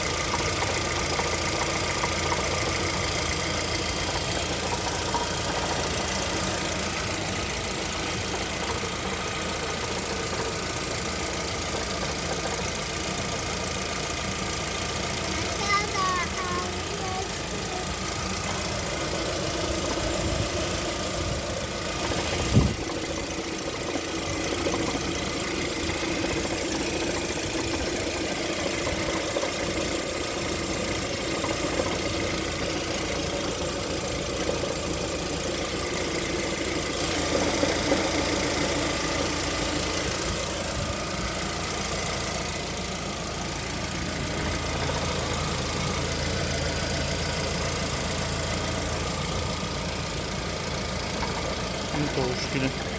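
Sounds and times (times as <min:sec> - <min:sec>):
car engine idling with knock: 0:00.0 - 0:52.9.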